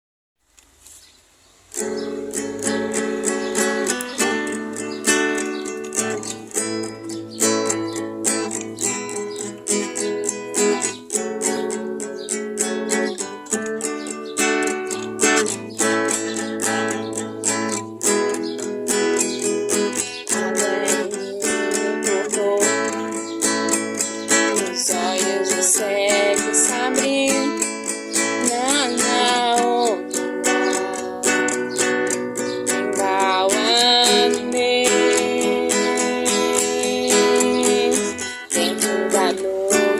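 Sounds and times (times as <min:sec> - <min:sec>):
acoustic guitar strumming chords: 0:01.4 - 0:39.9.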